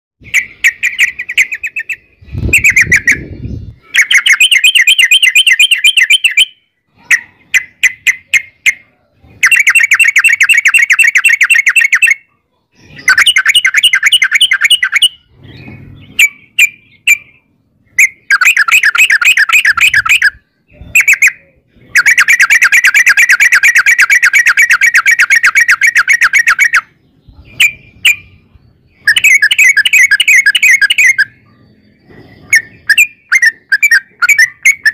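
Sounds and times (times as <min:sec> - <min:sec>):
bird chattering trills: 0:00.2 - 0:34.9
bird chirps: 0:00.2 - 0:34.9.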